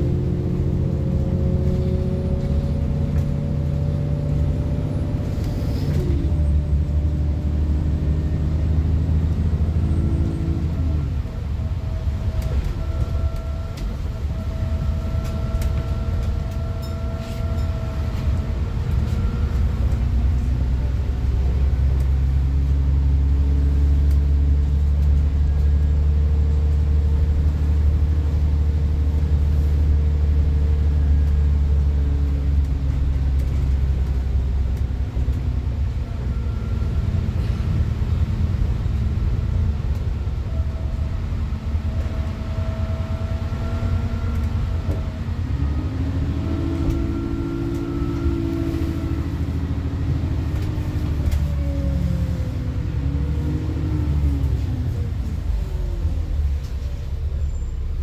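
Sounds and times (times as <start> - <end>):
bus engine drone: 0.0 - 58.0
engine whine: 0.0 - 58.0.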